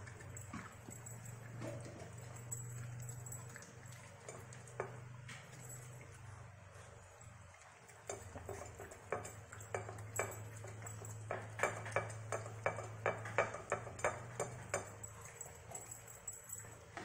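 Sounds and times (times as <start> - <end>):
dog licking plate clinking: 0.0 - 17.0.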